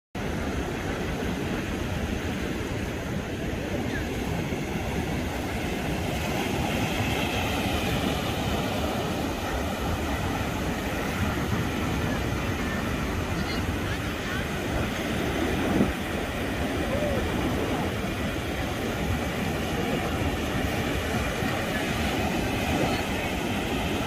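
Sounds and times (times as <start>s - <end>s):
ocean waves breaking: 0.2s - 24.0s.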